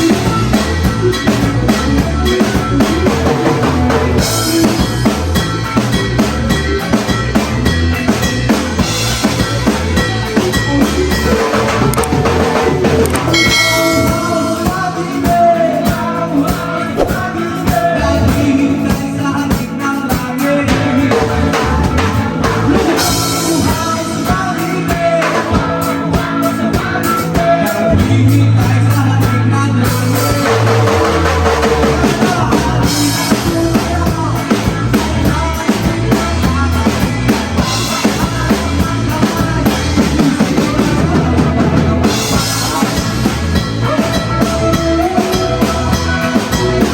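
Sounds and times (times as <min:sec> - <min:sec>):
person singing: 0:00.0 - 0:08.2, 0:09.0 - 0:46.9
bass guitar: 0:00.0 - 0:46.9
drum kit: 0:00.0 - 0:46.9
rock band playing live: 0:00.0 - 0:46.9.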